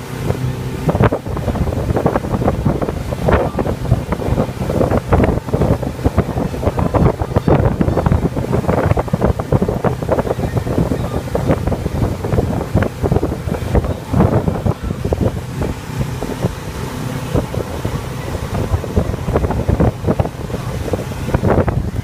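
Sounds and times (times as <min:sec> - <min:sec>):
boat motor humming: 0:00.0 - 0:22.0
wind buffeting microphone: 0:00.0 - 0:22.0.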